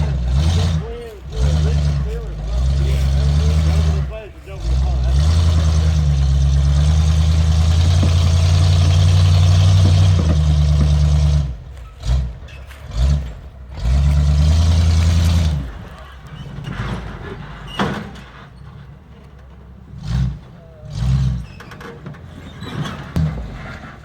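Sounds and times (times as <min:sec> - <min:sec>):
vehicle engine revving and idling: 0:00.0 - 0:24.0.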